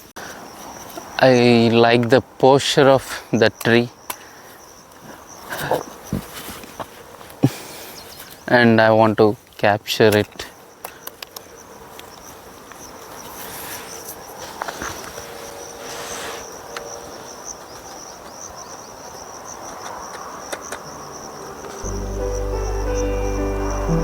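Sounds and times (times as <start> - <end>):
insects trilling: 0.2 - 24.0.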